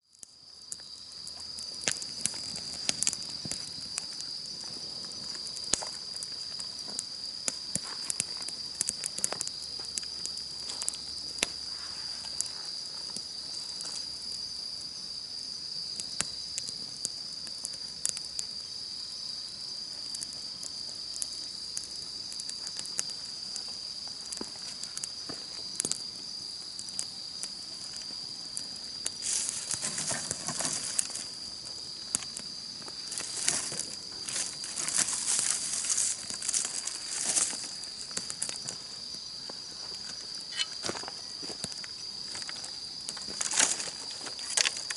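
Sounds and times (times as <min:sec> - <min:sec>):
insects singing: 0:00.0 - 0:44.9
wood fire crackling and popping: 0:00.0 - 0:44.9.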